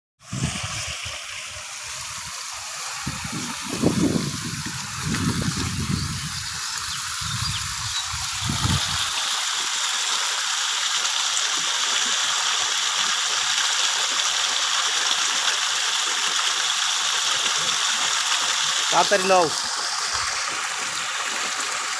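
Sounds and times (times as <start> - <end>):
water gushing from pipe: 0.2 - 21.9.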